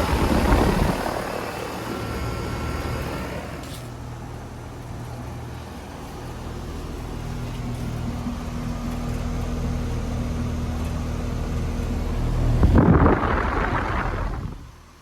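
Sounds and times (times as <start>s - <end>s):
air conditioner compressor hum: 0.0s - 15.0s.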